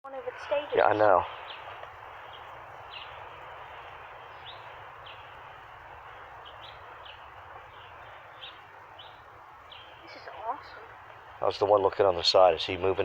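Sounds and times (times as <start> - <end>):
bird chirping: 0.1 - 13.0
steady hiss: 0.1 - 13.0.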